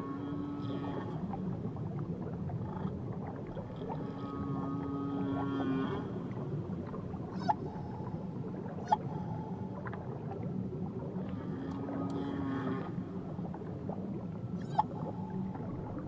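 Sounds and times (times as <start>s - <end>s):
whale song: 0.0s - 16.0s.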